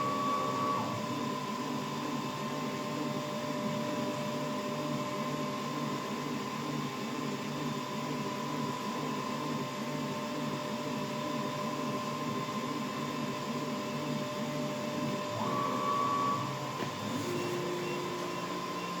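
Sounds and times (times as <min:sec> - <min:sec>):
machine motor whine: 0:00.0 - 0:19.0.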